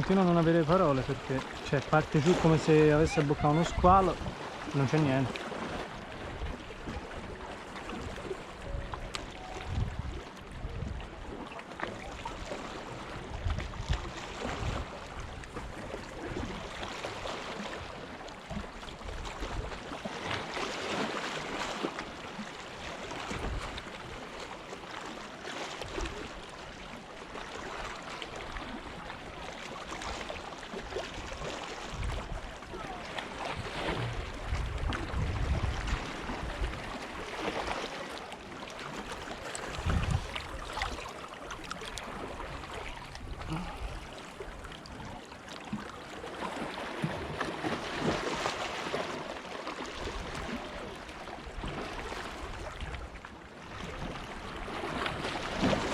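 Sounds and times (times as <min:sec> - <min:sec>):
sea water washing against rocks: 0:00.0 - 0:52.9, 0:53.9 - 0:55.9.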